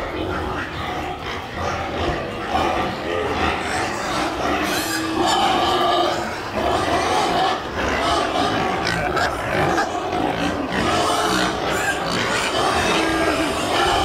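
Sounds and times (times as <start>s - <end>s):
pigs grunting and squealing: 0.0s - 14.0s.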